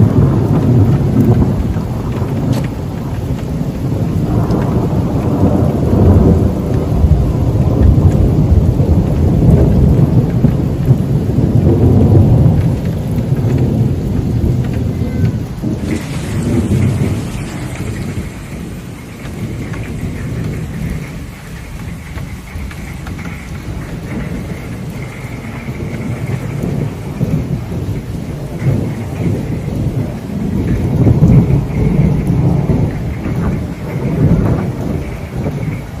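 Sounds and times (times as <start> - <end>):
steady rain: 0.0 - 36.0
thunder rumbling: 0.0 - 36.0.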